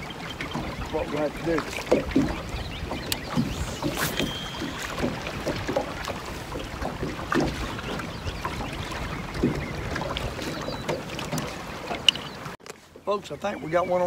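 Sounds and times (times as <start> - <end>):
wind rumbling on microphone: 0.0 - 12.6
waves lapping against boat hull: 0.0 - 14.0.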